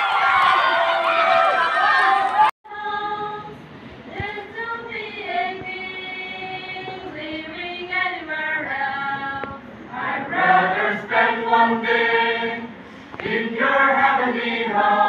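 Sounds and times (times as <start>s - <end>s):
choir singing a slow hymn: 2.7s - 15.0s.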